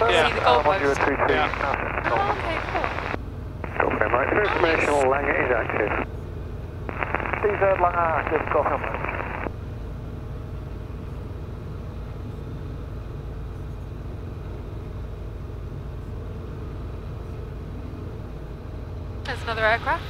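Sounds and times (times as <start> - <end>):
helicopter cabin drone: 0.0 - 20.0.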